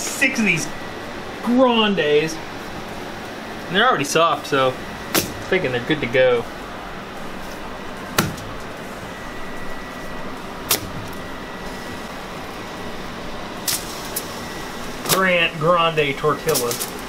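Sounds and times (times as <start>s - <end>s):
fan-like room hum: 0.0s - 17.0s.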